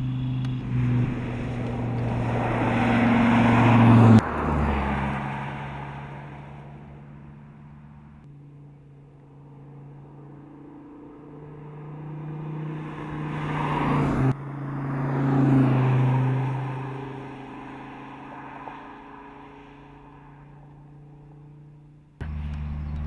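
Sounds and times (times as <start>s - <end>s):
car engine driving by: 0.0s - 23.0s.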